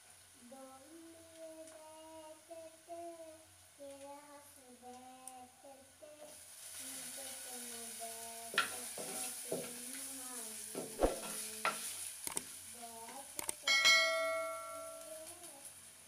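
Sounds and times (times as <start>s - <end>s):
spices and oil sizzling in pot: 0.0s - 16.0s.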